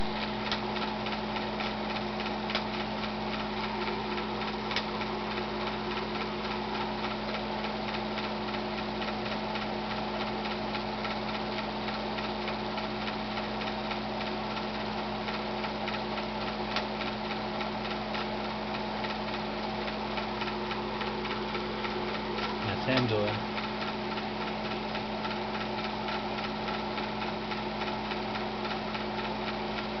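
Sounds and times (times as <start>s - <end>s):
film projector running: 0.0s - 30.0s
projector mechanism ticking: 0.0s - 30.0s.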